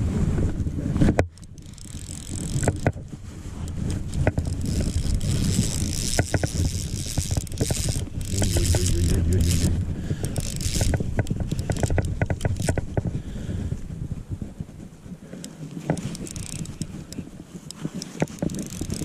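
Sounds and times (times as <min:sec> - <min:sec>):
wind rumbling on microphone: 0:00.0 - 0:19.0
fishing reel and line clicks: 0:01.2 - 0:13.1, 0:15.4 - 0:19.0.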